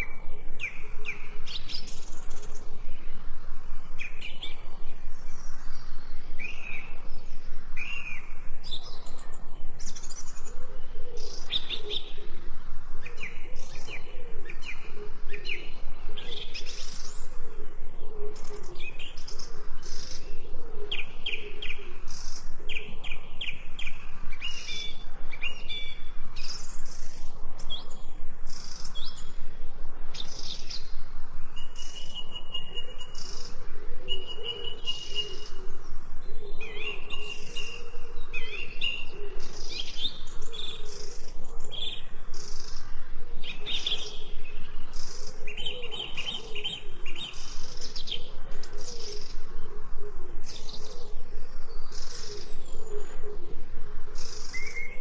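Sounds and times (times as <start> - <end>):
soft background hiss: 0.0 - 55.0
songbirds chirping and trilling: 0.0 - 55.0.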